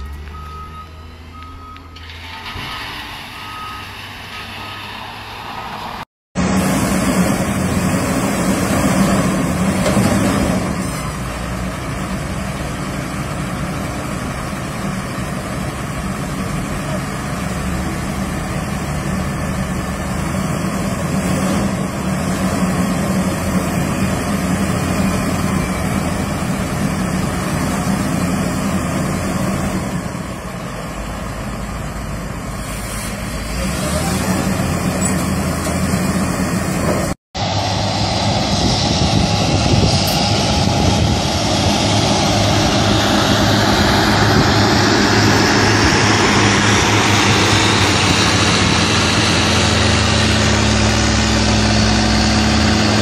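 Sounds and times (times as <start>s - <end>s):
motor grader diesel engine: 0.0s - 53.0s
wheel loader diesel engine: 0.0s - 53.0s.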